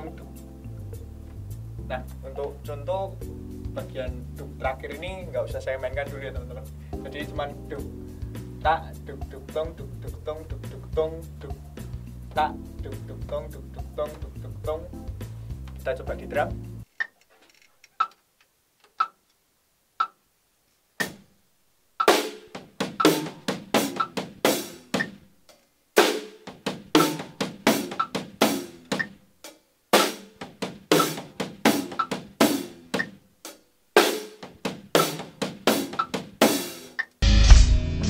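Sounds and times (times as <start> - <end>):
acoustic drum kit groove: 0.0 - 16.9, 21.0 - 21.3, 22.0 - 25.3, 26.0 - 38.0.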